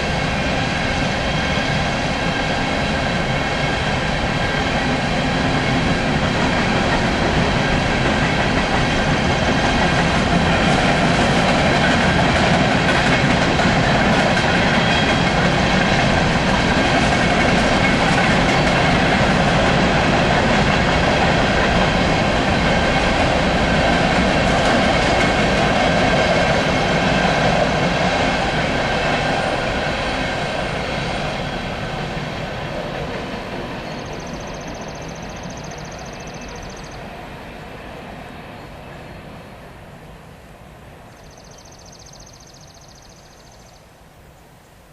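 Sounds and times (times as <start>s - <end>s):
train wheels clattering on rails: 0.0s - 39.4s.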